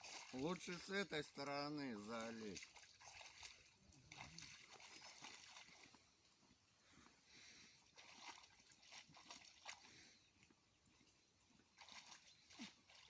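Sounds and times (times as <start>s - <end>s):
pond water sloshing: 0.0s - 13.0s.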